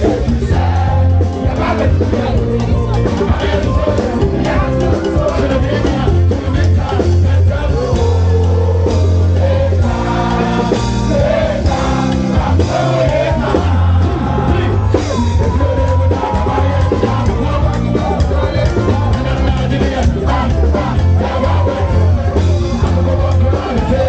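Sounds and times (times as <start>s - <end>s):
heavy bass line: 0.0s - 24.0s
live band playing calypso: 0.0s - 24.0s.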